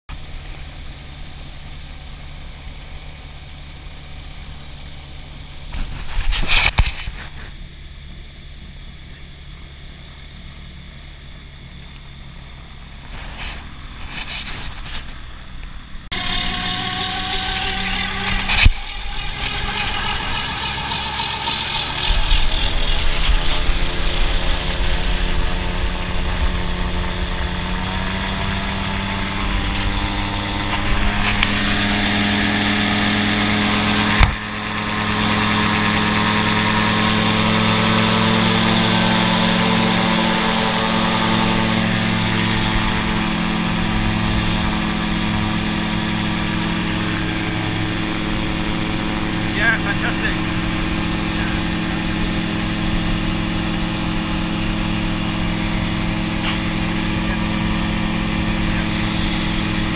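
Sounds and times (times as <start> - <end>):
gyroplane engine: 0.1 - 59.9.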